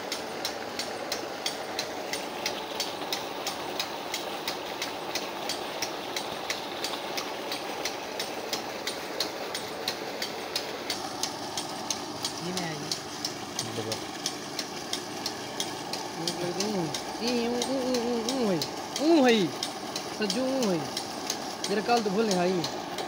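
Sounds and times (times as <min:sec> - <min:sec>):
engine running: 0:00.0 - 0:23.0
sharp regular ticking: 0:00.0 - 0:23.0.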